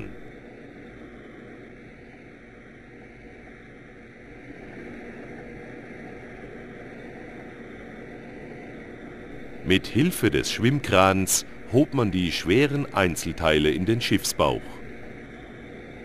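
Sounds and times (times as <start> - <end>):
steady rumble and hiss: 0.0 - 16.0.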